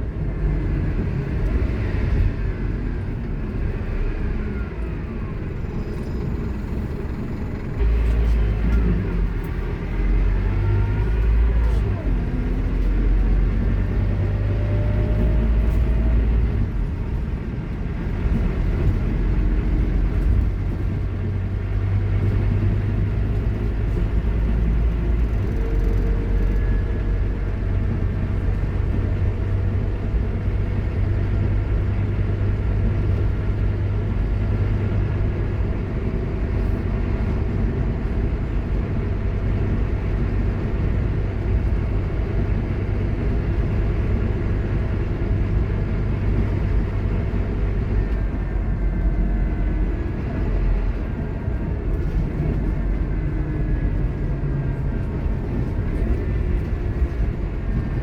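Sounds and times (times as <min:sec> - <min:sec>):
bus diesel engine rumble: 0:00.0 - 0:58.0.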